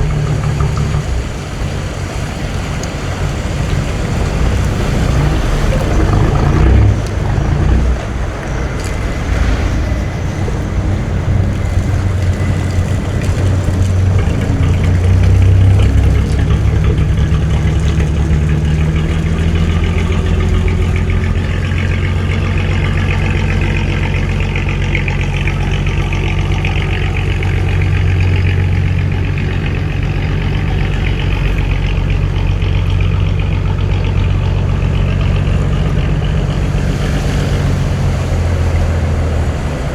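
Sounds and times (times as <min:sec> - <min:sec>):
boat engine rumbling: 0:00.0 - 0:39.9.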